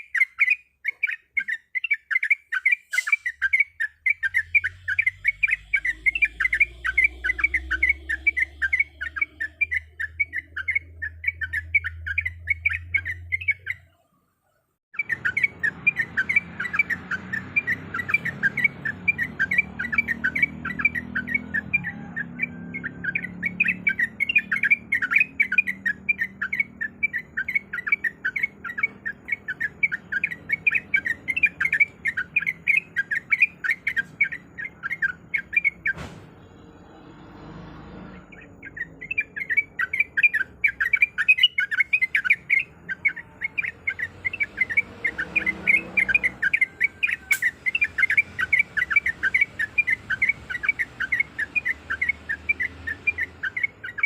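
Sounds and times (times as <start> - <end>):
bird chattering: 0.0 - 14.0, 15.0 - 36.0, 38.2 - 54.0.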